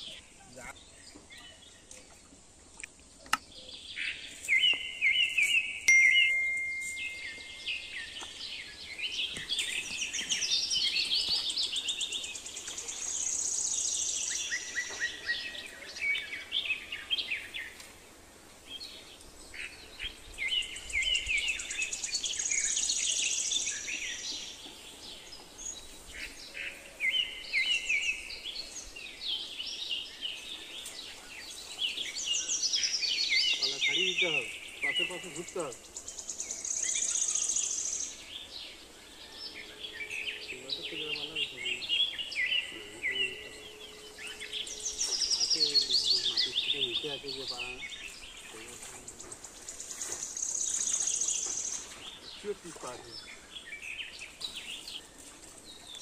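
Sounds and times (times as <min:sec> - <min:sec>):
birds singing and chirping: 0:00.0 - 0:56.0.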